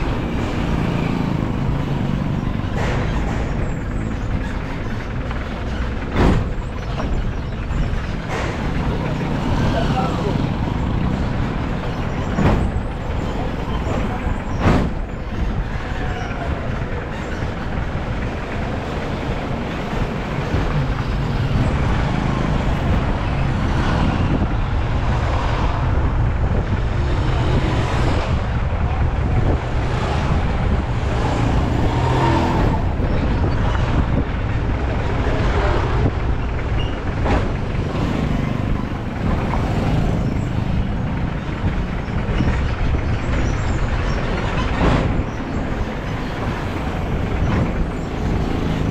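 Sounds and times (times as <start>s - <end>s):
car engine and road noise: 0.0s - 48.9s
traffic passing: 0.0s - 48.9s.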